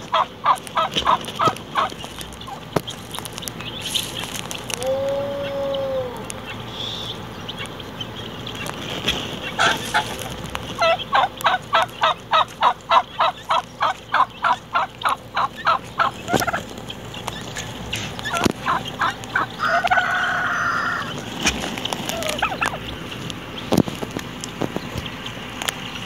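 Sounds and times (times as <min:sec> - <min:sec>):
turkeys calling: 0:00.0 - 0:26.0.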